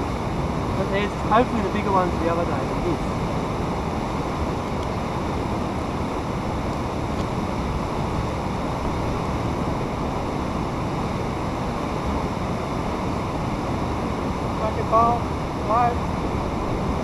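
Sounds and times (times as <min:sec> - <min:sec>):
water rushing in a channel: 0:00.0 - 0:17.0.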